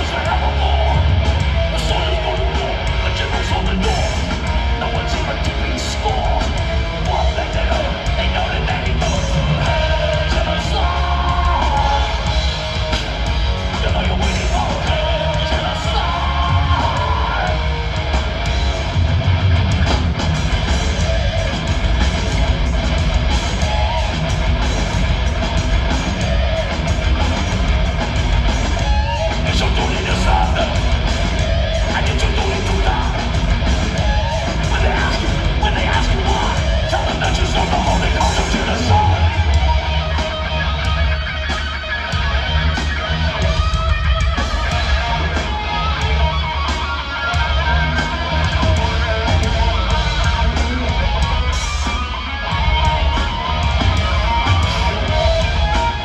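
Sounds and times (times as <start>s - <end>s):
bass: 0.0s - 56.0s
distorted electric guitars: 0.0s - 56.0s
drums: 0.0s - 56.0s
yelled vocals: 0.0s - 56.0s.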